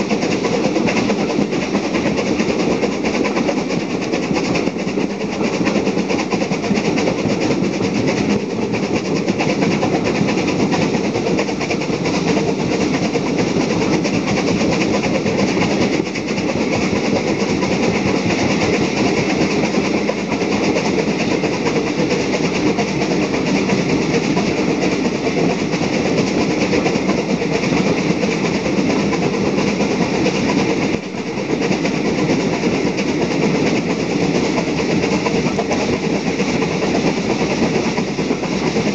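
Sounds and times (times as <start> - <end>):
carriage wheels on rails: 0.0 - 38.9
steam locomotive working uphill: 0.0 - 38.9.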